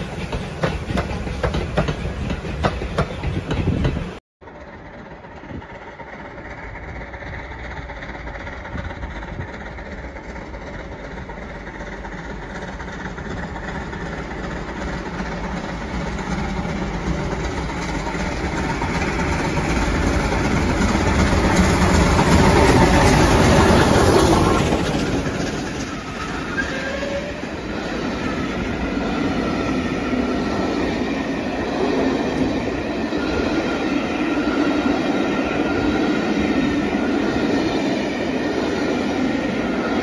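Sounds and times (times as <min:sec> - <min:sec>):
steam train passing: 0:00.0 - 0:40.0.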